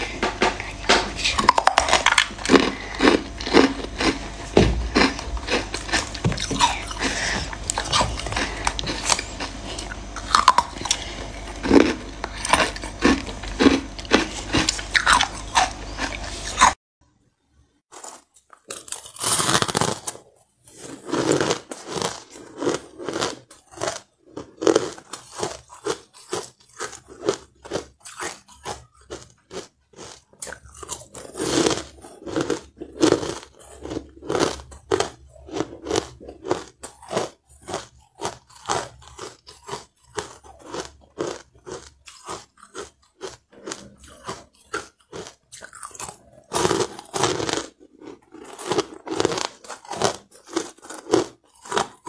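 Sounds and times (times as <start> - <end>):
crunching ice: 1.2 - 16.7, 17.9 - 52.0.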